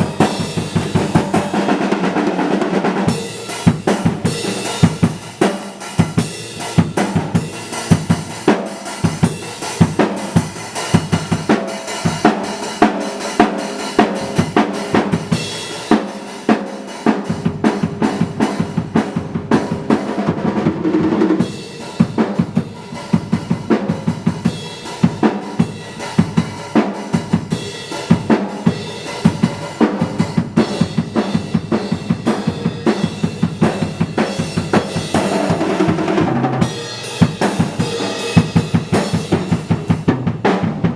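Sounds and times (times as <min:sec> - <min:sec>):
drum kit groove: 0:00.0 - 0:40.9
pitched backing music: 0:00.0 - 0:40.9.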